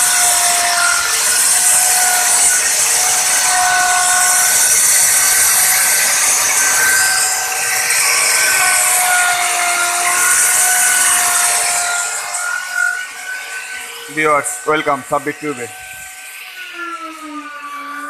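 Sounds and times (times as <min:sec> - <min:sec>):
wood router cutting: 0:00.0 - 0:18.0.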